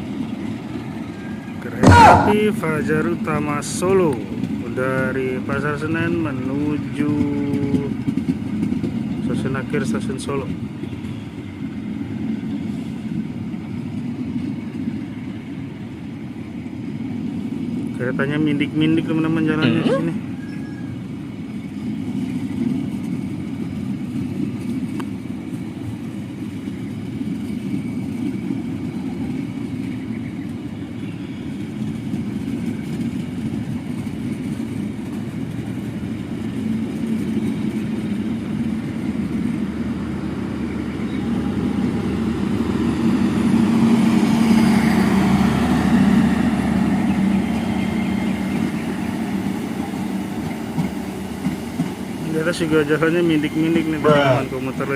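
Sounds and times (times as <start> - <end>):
train rumbling slowly past: 0.0 - 54.9.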